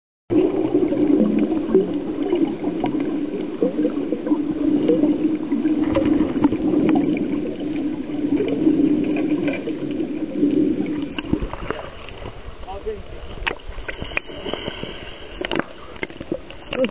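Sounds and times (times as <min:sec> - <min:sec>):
underwater clicks and bubbling: 0:00.3 - 0:16.9
underwater low hum: 0:00.3 - 0:16.9.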